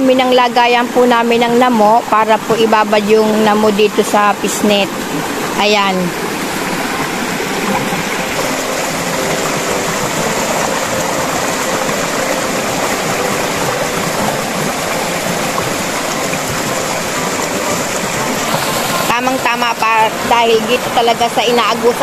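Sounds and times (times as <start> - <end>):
stream rushing over boulders: 0.0 - 22.0.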